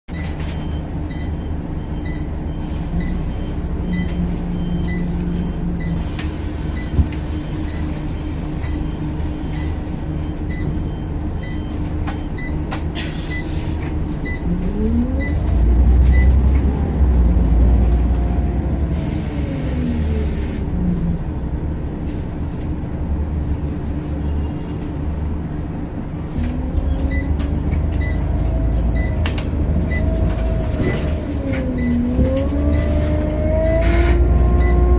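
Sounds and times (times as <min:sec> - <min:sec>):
bus engine running: 0:00.1 - 0:34.9.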